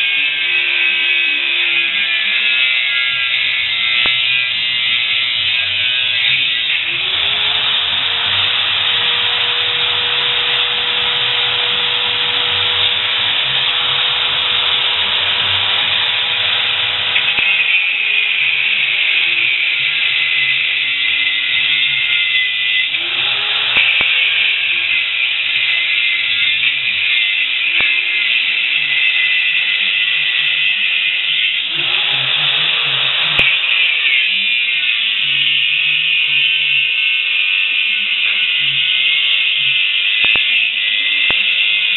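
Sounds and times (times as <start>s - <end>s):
angle grinder grinding metal: 0.0s - 41.9s
music: 0.0s - 41.9s.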